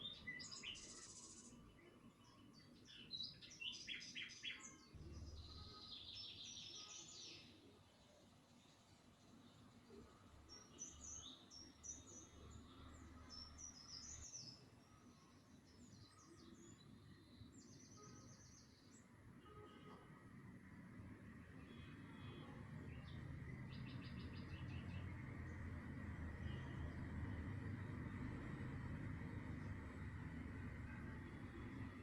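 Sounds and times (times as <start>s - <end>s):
birdsong trills and chirps: 0.0s - 9.8s, 10.4s - 20.1s, 20.7s - 32.0s.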